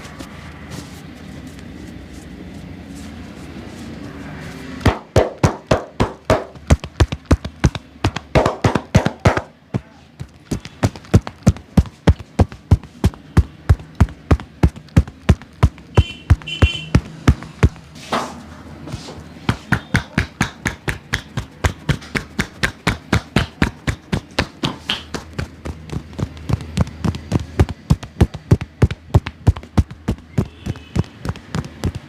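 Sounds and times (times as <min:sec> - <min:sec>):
hands slapping on body: 0:04.8 - 0:09.6, 0:10.2 - 0:18.3, 0:18.9 - 0:32.0.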